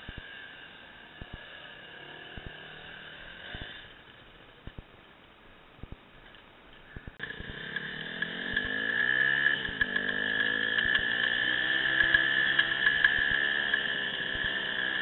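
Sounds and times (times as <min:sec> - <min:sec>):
dirt bike engine accelerating: 0:00.0 - 0:04.1, 0:07.0 - 0:15.0.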